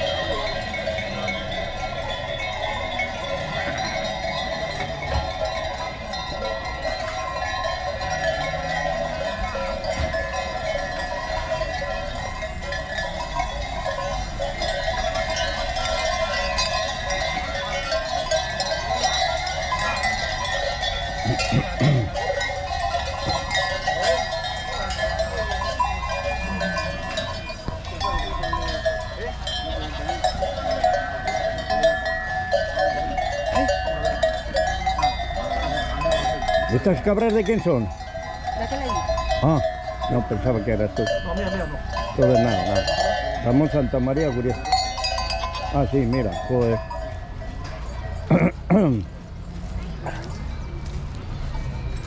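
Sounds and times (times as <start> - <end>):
goat bells clanging: 0.0 - 52.0.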